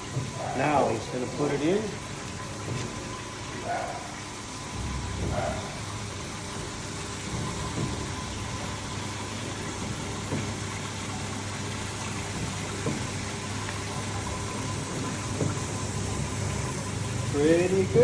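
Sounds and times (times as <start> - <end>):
motor hum: 0.0 - 18.0.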